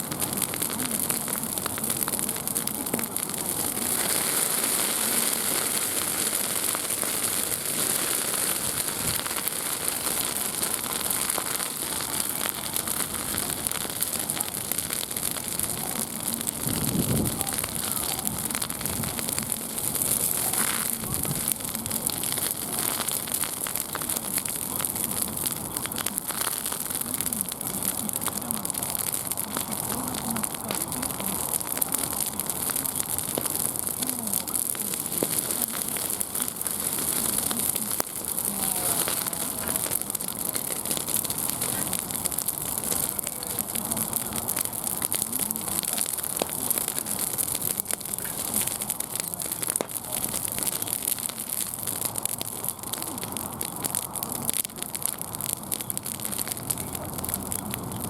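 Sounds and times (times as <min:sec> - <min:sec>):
wood fire crackling: 0:00.0 - 0:58.0
faint murmur of voices: 0:09.1 - 0:58.0.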